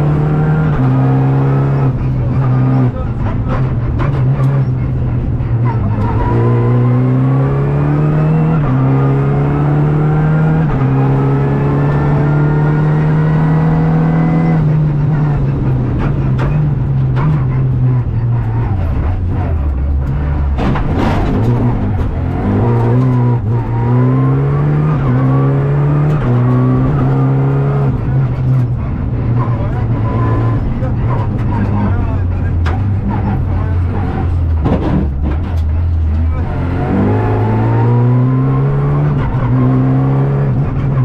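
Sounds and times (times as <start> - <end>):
car engine at full throttle: 0.0 - 41.0.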